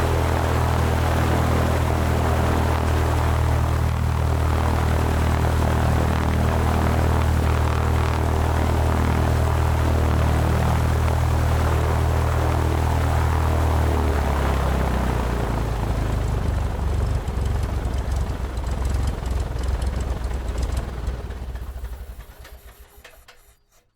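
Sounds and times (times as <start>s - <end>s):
airplane engine drone: 0.0s - 23.6s.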